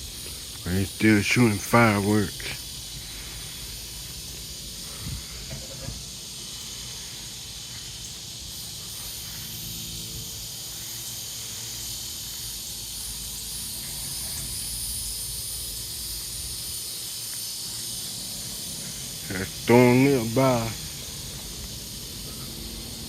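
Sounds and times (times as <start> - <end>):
insects hissing: 0.0 - 23.0.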